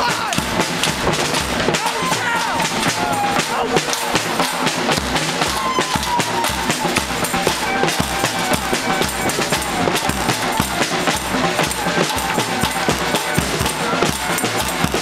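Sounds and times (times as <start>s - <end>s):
protesters drumming and banging percussion: 0.0s - 15.0s.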